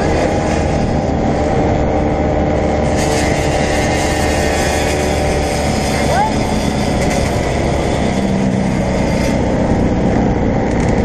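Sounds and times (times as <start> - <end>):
dirt bike engines running: 0.0 - 11.0.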